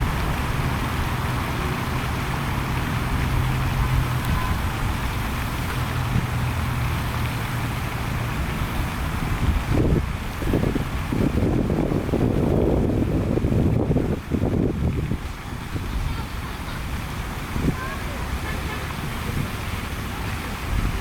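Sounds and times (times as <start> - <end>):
low engine hum: 0.0 - 21.0
outdoor background noise: 0.0 - 21.0.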